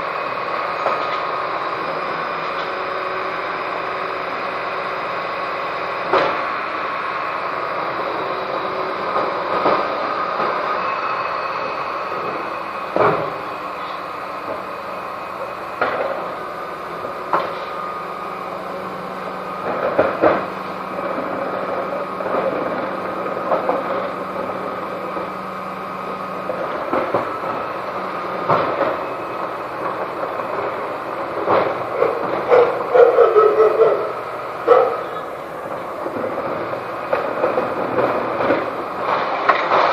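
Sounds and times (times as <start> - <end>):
refuse truck engine humming: 0.0 - 39.9
bins and bin lift clunking: 7.6 - 39.9.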